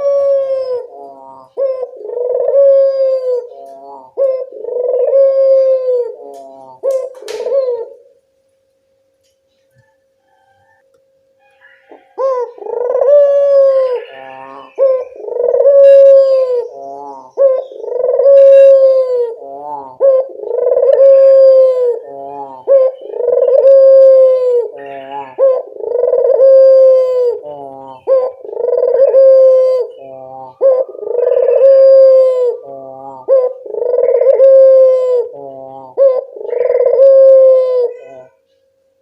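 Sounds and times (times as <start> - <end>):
dove cooing call: 0.0 - 8.2, 9.7 - 38.5.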